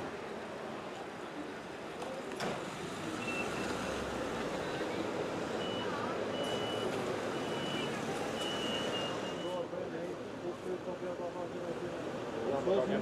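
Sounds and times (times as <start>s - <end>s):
outdoor street noise: 0.0s - 13.0s.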